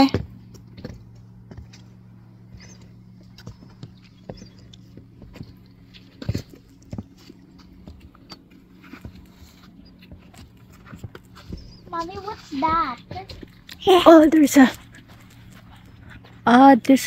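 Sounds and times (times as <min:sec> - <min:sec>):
footsteps on wooden stairs: 0:00.0 - 0:16.4
faint low hum: 0:00.0 - 0:17.0.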